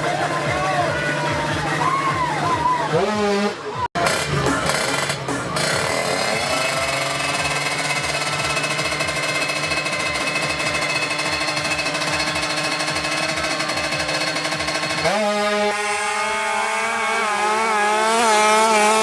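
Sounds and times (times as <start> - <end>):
two-stroke engine running: 0.0 - 19.0.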